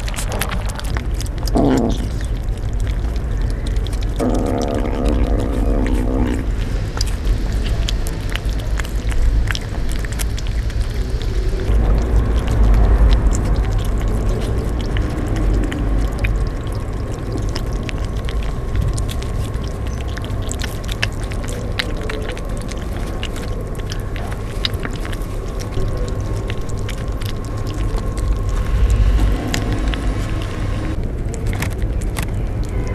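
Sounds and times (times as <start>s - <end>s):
kittens chewing wet food: 0.0s - 32.9s
low background rumble: 0.0s - 32.9s.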